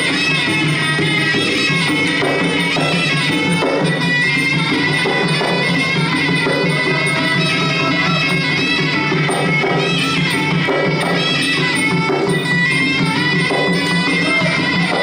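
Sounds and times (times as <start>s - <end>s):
hand drums: 0.0s - 15.0s
reedy oboe melody: 0.0s - 15.0s
small cymbals: 0.0s - 15.0s.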